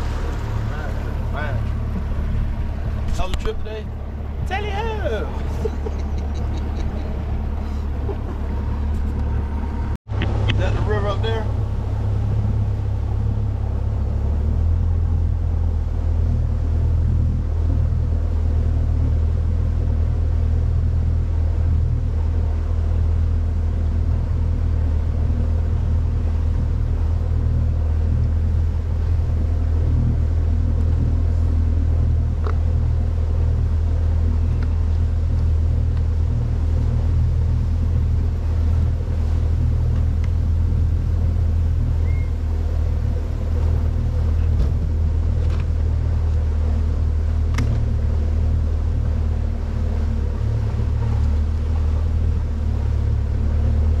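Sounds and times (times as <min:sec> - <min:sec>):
boat motor droning: 0:00.0 - 0:54.0.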